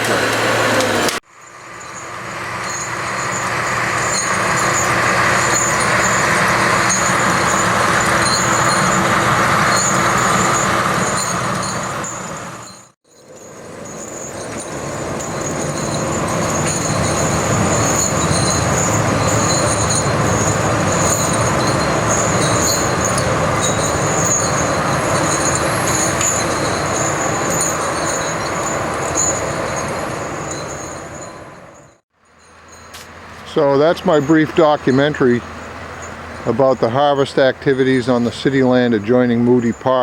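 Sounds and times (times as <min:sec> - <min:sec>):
diesel machinery engine drone: 0:00.0 - 0:12.9, 0:13.5 - 0:40.0
high-pitched squeaks and whine: 0:00.0 - 0:40.0.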